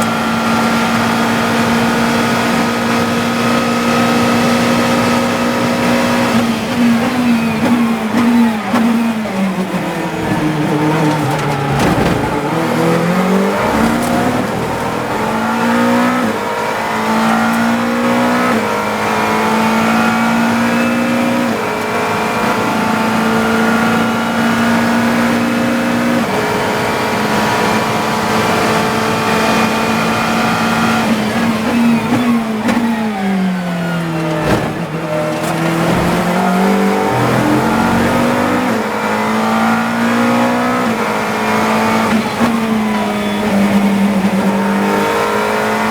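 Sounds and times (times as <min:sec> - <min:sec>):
race car engine revving: 0:00.0 - 0:45.9.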